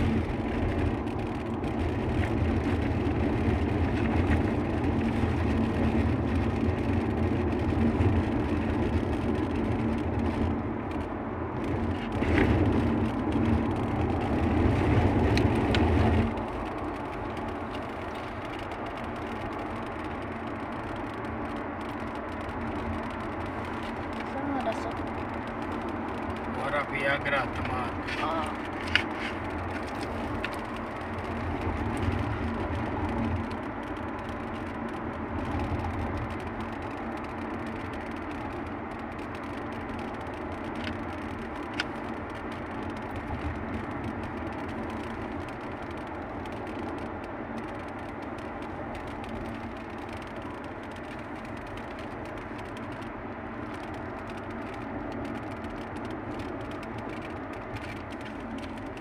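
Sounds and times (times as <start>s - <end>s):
car road noise from cabin: 0.0s - 59.0s.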